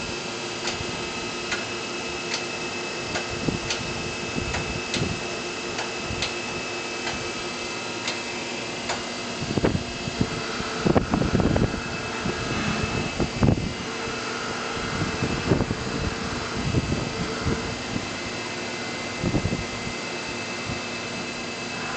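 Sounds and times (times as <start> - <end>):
machine humming steadily: 0.0 - 21.9.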